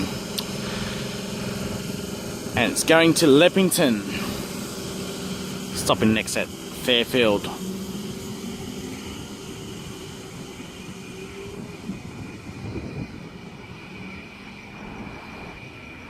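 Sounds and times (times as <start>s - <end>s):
electrical hum: 0.0s - 16.0s
faint high whine: 0.0s - 16.0s
train rumble: 0.0s - 16.0s.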